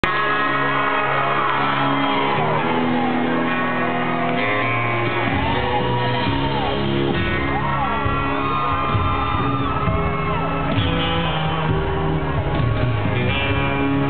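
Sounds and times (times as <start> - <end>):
crowd shouting and whooping: 0.0 - 14.0
live country band playing: 0.0 - 14.0.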